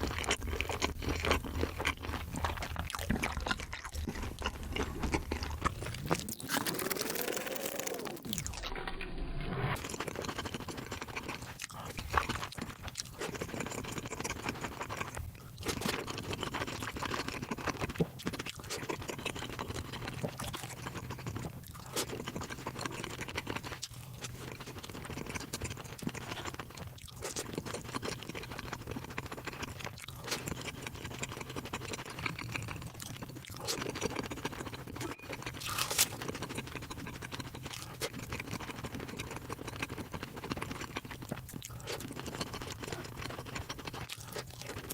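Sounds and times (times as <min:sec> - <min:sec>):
person chewing crunchy food: 0:00.0 - 0:08.7, 0:09.7 - 0:44.9.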